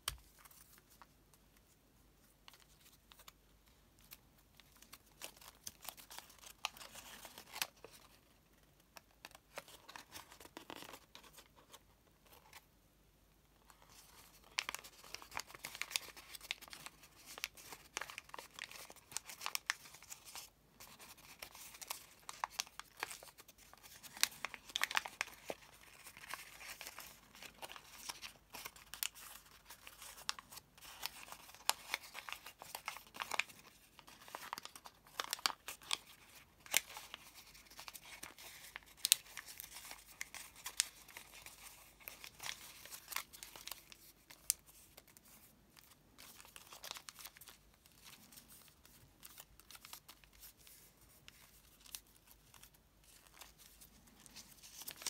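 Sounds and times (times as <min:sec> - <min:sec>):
paper crinkling and crackling: 0:02.4 - 0:12.7, 0:13.6 - 0:55.0.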